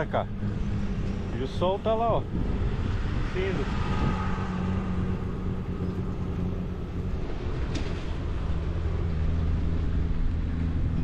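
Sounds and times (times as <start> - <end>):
steady low hum: 0.0 - 11.0
wind rumbling on microphone: 0.3 - 11.0.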